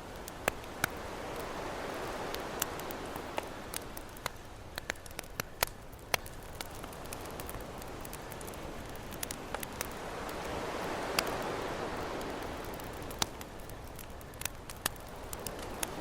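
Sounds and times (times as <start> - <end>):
ocean waves washing: 0.0 - 5.7, 6.3 - 16.0
campfire crackling and popping: 0.0 - 16.0.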